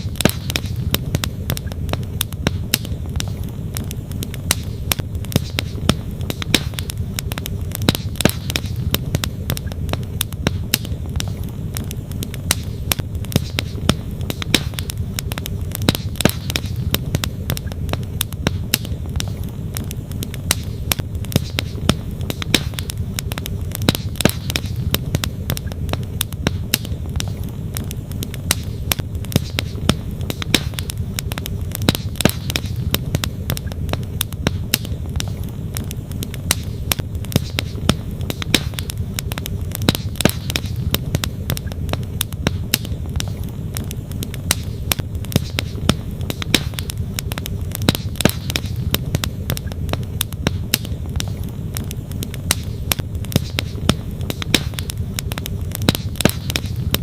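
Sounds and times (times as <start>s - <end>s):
burning logs popping: 0.0s - 57.0s
campfire crackling: 0.0s - 57.0s.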